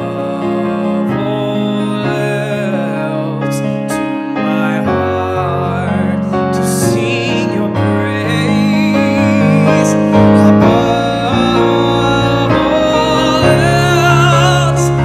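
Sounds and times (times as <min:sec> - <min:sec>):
man singing worship song: 0:00.0 - 0:15.0
piano chords: 0:00.0 - 0:15.0.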